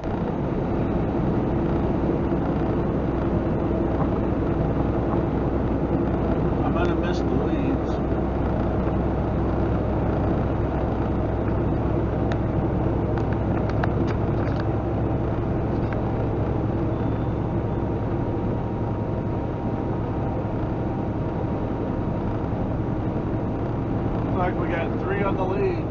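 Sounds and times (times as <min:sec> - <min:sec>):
diesel truck engine running: 0:00.0 - 0:25.9
road and tyre noise: 0:00.0 - 0:25.9.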